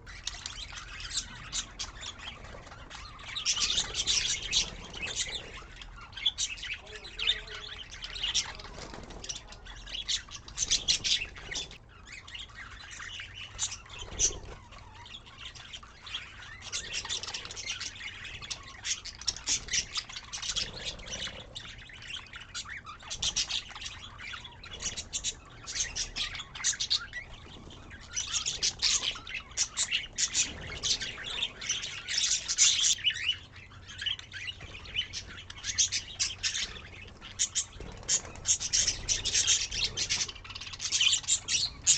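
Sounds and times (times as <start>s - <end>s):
budgerigars chirping and warbling: 0.0s - 41.9s.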